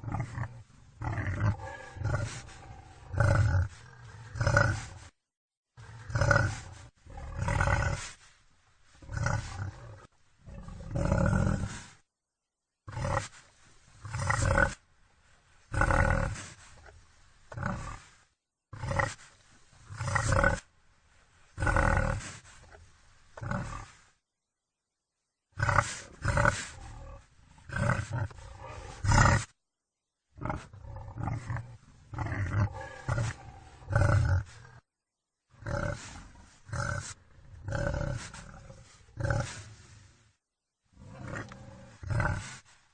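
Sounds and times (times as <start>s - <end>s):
wild boar guttural calls: 0.0s - 5.1s, 5.8s - 8.3s, 9.0s - 12.0s, 12.9s - 14.9s, 15.7s - 20.7s, 21.6s - 24.1s, 25.5s - 29.6s, 30.4s - 34.8s, 35.5s - 40.2s, 40.9s - 42.8s.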